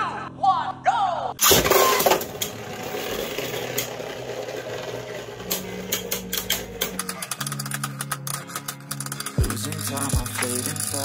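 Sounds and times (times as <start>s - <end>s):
spinning tops clattering on landing: 1.4s - 11.0s
spinning tops clicking together: 1.4s - 11.0s
spinning tops whirring on plastic: 1.4s - 11.0s.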